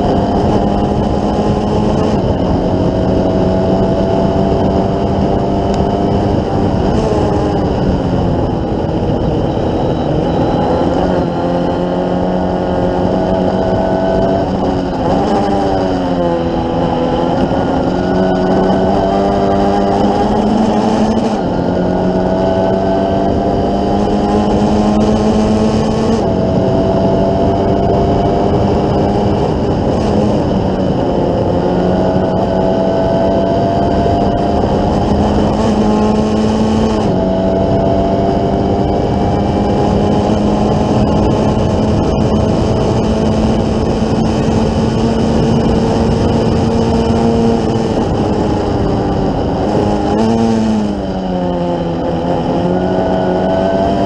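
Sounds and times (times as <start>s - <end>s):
race car engine revving through gears: 0.0s - 54.0s
wind rush: 0.0s - 54.0s.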